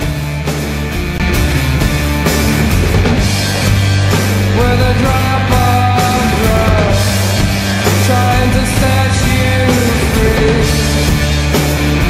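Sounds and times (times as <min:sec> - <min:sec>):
rock music with singing: 0:00.0 - 0:12.0.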